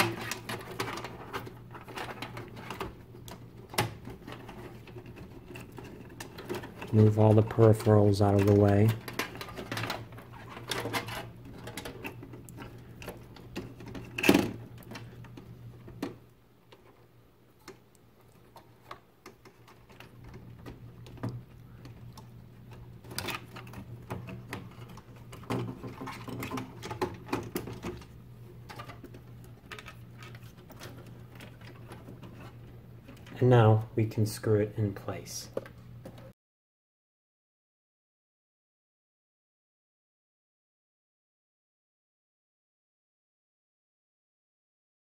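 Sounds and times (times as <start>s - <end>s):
low steady hum: 0.0s - 36.3s.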